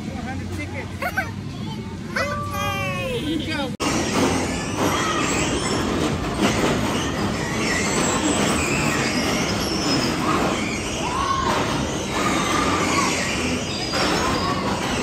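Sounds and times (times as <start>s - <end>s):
bumper cars din: 0.0s - 15.0s.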